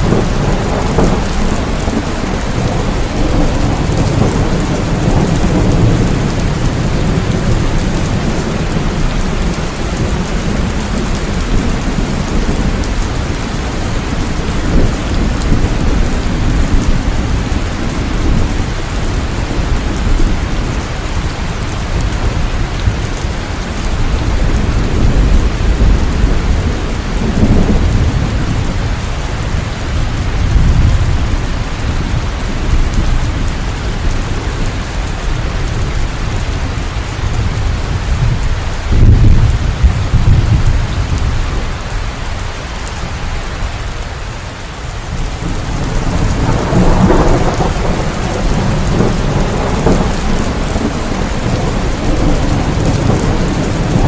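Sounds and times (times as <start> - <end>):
rolling thunder: 0.0 - 42.0, 45.0 - 54.0
heavy rain: 0.0 - 54.0.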